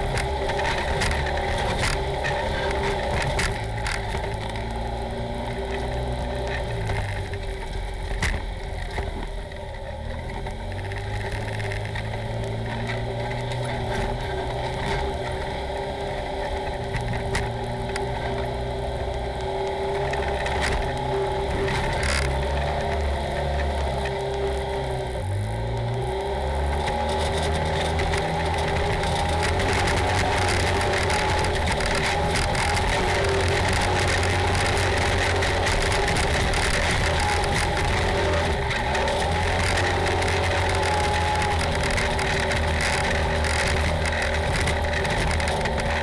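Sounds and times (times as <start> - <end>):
off-road vehicle engine running: 0.0 - 46.0
small clicks and rattles: 0.0 - 46.0.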